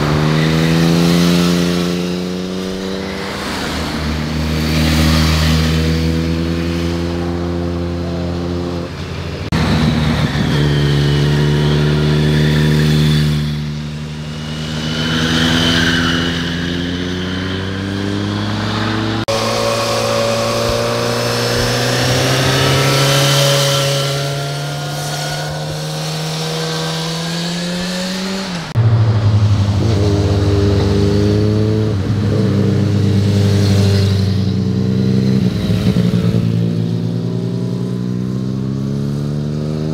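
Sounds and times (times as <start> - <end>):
motorcycle engines under throttle: 0.0 - 39.9.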